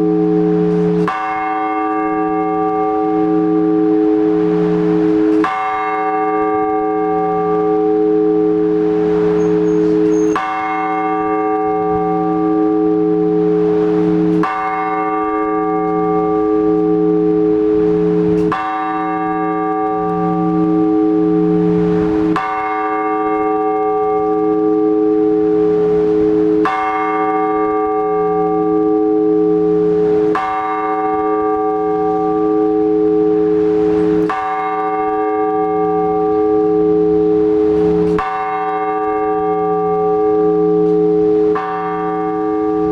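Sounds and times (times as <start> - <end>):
large church bell tolling: 0.0 - 42.9.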